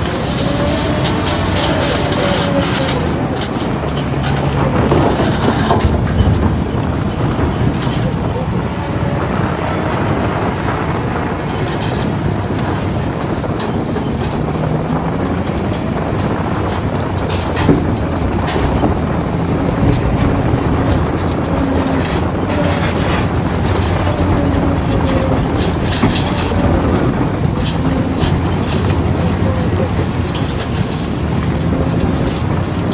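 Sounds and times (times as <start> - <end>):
heavy machine engine rumbling: 0.0 - 32.9.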